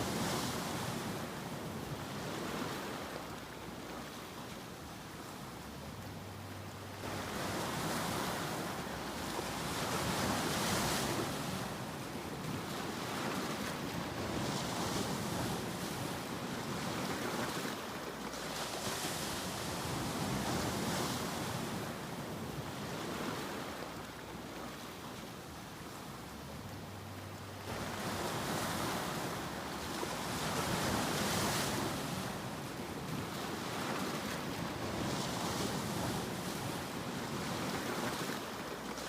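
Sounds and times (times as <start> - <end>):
ocean waves washing in: 0.0 - 39.0.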